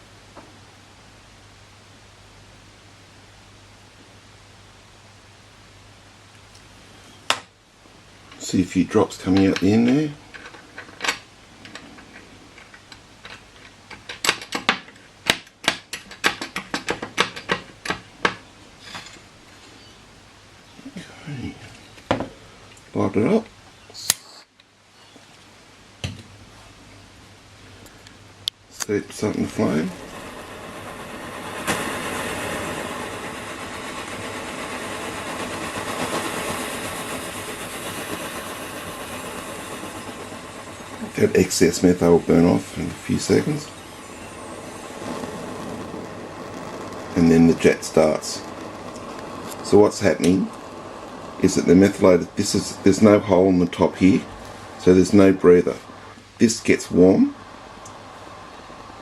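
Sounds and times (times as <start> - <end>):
spirit burner flame: 0.0 - 59.0.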